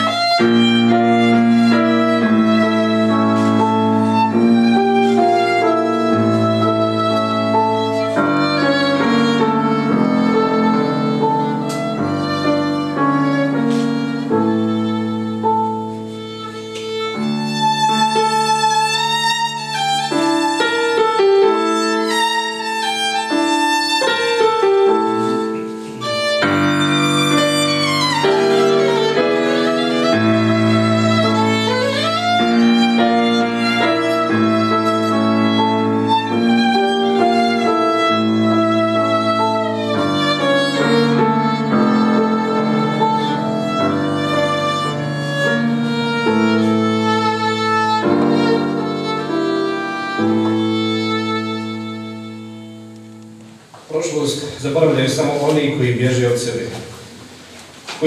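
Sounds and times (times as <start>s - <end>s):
violin melody with vibrato: 0.0s - 56.0s
sustained piano chords: 0.0s - 57.5s.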